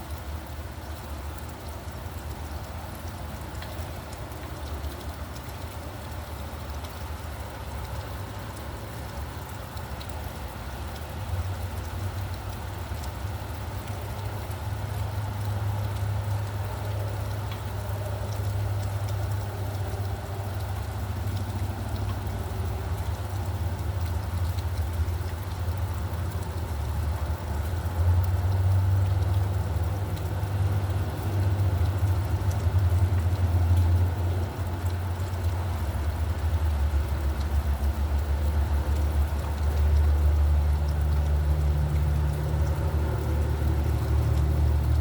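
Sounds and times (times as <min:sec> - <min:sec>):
steady rain: 0:00.0 - 0:45.0
vehicle engine rumble: 0:00.4 - 0:45.0.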